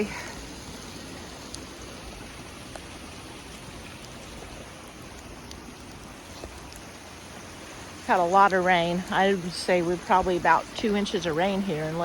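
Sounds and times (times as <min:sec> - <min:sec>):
creek water rushing: 0:00.0 - 0:12.0
faint splashes: 0:00.0 - 0:12.0.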